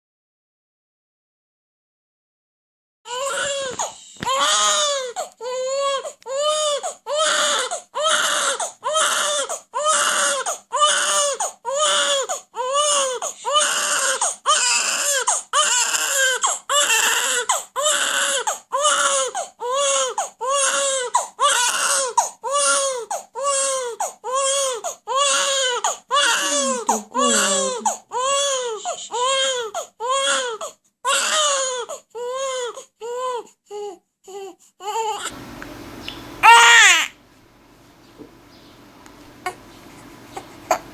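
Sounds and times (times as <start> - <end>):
baby crying in rapid wails: 3.1 - 35.3, 36.4 - 37.2.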